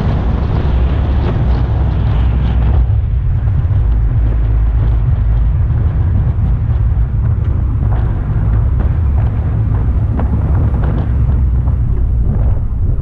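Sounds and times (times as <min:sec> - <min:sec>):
car road noise: 0:00.0 - 0:13.0
wind buffeting camera: 0:00.0 - 0:13.0.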